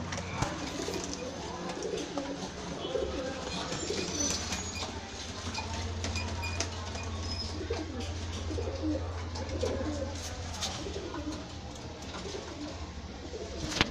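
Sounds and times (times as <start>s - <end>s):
pigeons cooing: 0.2s - 13.9s.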